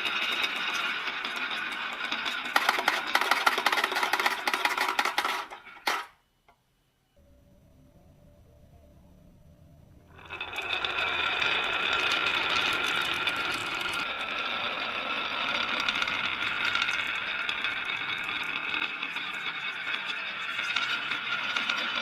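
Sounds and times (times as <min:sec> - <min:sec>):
marbles rolling on a track: 0:00.0 - 0:06.2, 0:10.1 - 0:22.0.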